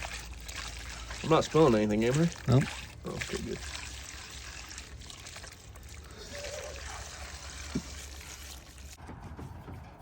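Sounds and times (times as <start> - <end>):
fuel pouring: 0.0 - 9.0.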